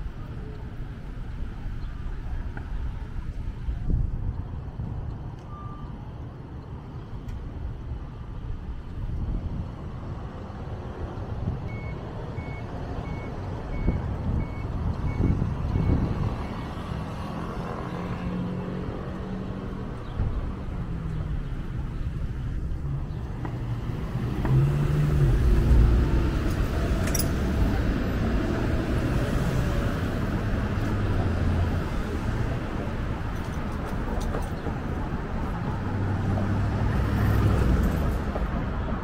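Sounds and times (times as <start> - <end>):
street traffic rumbling: 0.0 - 39.0.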